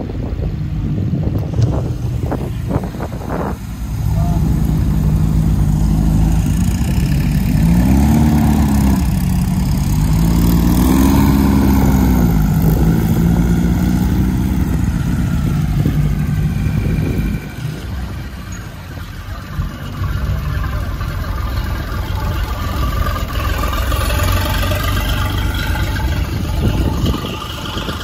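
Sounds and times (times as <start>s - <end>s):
dune buggy engines revving: 0.0s - 28.0s.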